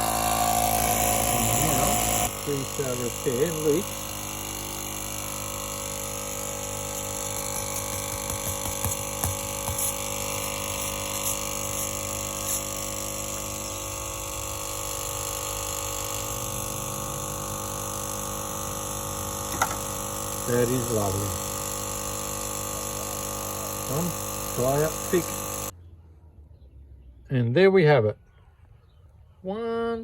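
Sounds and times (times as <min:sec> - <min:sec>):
electric tyre pump running: 0:00.0 - 0:25.8.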